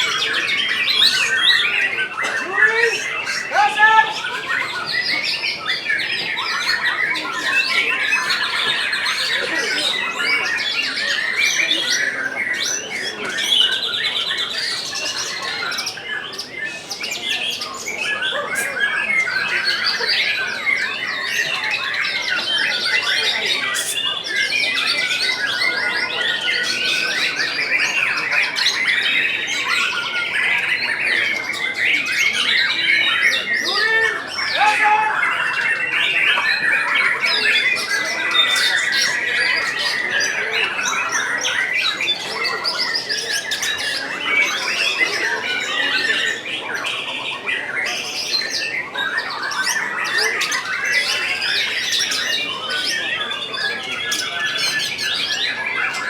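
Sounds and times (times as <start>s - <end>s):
chorus of songbirds singing: 0.0s - 56.0s.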